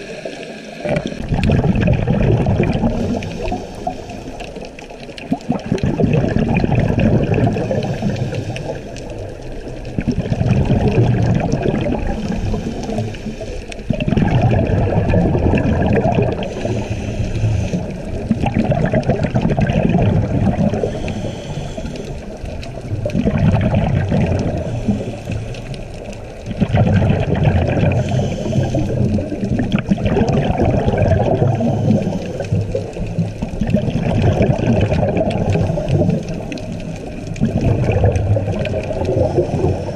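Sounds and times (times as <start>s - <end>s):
underwater exhaled bubbles rushing: 0.0s - 39.9s.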